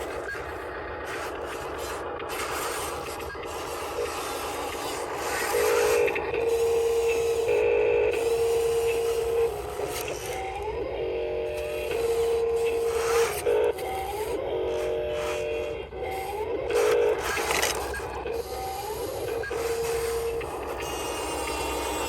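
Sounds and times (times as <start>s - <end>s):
grinding rubbing noise: 0.0s - 22.0s
toy electric motors whining: 0.0s - 22.0s.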